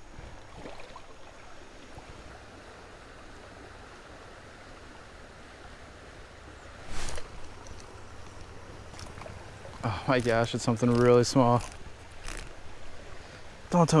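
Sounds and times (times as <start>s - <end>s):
creek current rushing: 0.0s - 14.0s.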